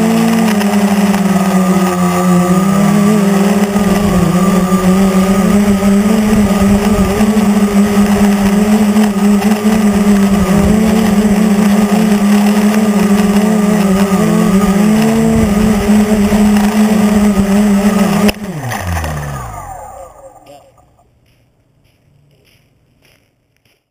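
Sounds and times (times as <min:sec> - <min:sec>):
quadcopter propellers droning: 0:00.0 - 0:21.1.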